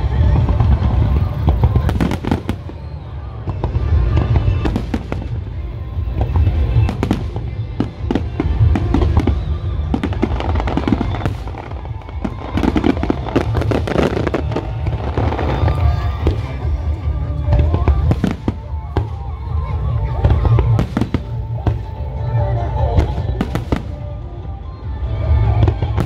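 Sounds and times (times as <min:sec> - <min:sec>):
fireworks bursting: 0:00.0 - 0:24.3
continuous low rumble: 0:00.0 - 0:26.0
music playing: 0:00.0 - 0:26.0.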